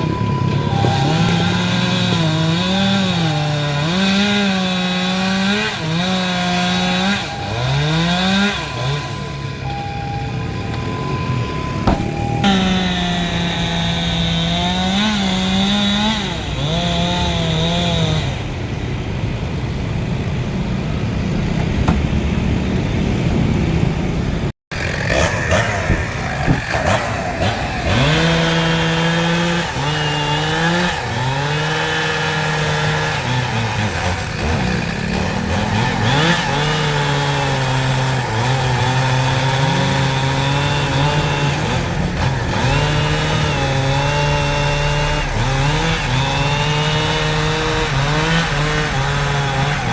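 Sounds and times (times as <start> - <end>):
chainsaw cutting into tree: 0.0 - 18.4, 24.7 - 49.9.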